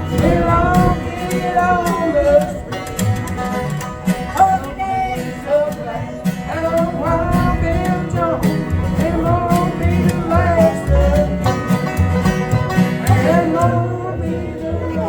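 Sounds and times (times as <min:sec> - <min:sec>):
person singing: 0:00.0 - 0:15.0
plucked acoustic strings: 0:00.0 - 0:15.0.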